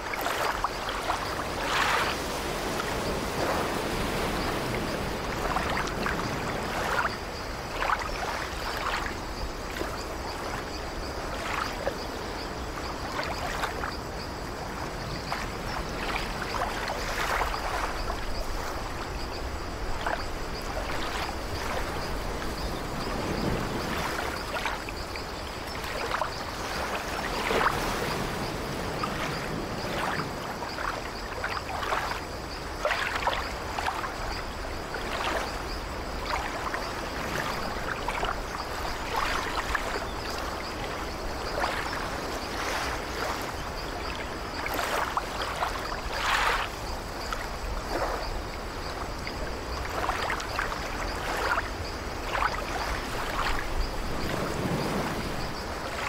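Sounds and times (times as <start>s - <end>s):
short water splashes: 0.0s - 14.0s, 14.7s - 56.0s
small waves lapping at shore: 0.0s - 56.0s.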